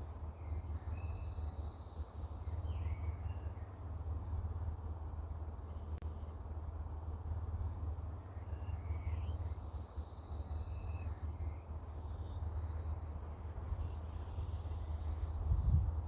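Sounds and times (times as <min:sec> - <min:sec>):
small birds chirping: 0:00.0 - 0:06.3, 0:07.3 - 0:16.0.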